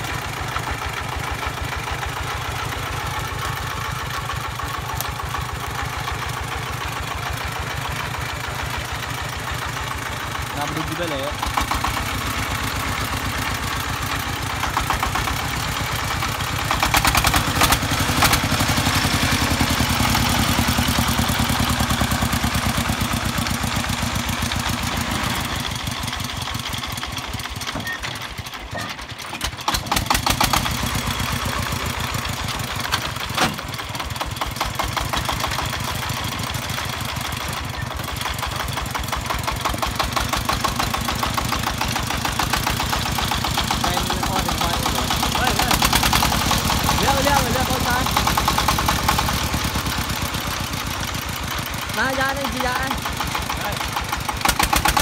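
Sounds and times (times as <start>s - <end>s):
diesel tractor engine chugging: 0.0s - 55.0s.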